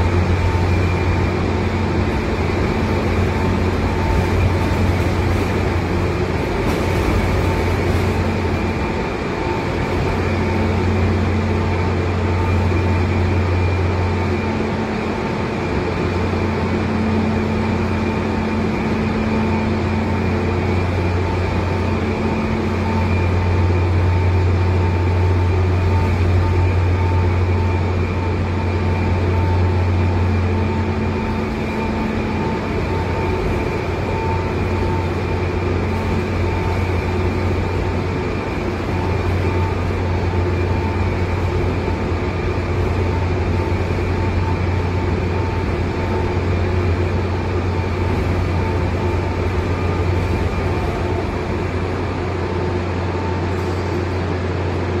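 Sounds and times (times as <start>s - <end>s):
crane drive low hum: 0.0s - 55.0s
faint whine tones: 0.0s - 55.0s.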